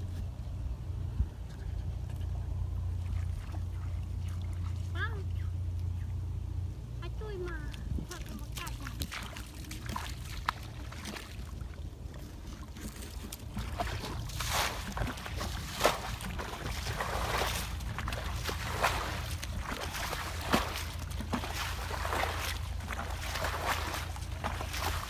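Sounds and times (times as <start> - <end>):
low rumble: 0.0 - 25.0
muddy water splashing: 1.0 - 6.4, 7.3 - 25.0.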